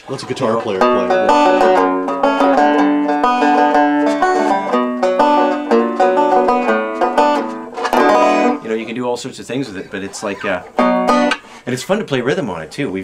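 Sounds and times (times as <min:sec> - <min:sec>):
banjo plucked notes and chords: 0:00.0 - 0:11.6.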